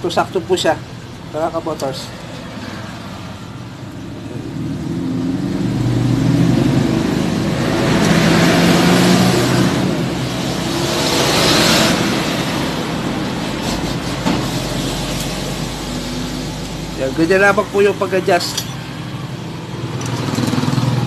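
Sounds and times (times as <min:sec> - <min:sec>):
vehicle engine passing by: 0:02.0 - 0:21.0.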